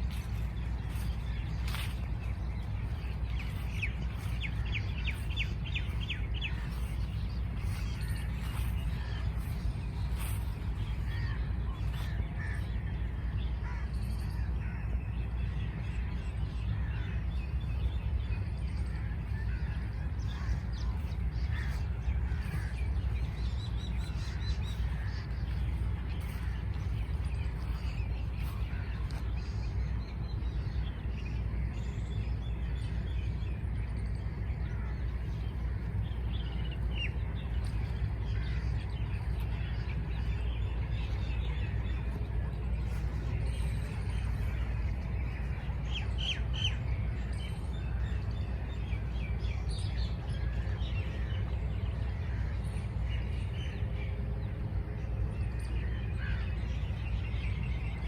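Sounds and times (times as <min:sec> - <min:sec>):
low outdoor rumble: 0:00.0 - 0:58.0
wild birds chirping: 0:00.0 - 0:58.0.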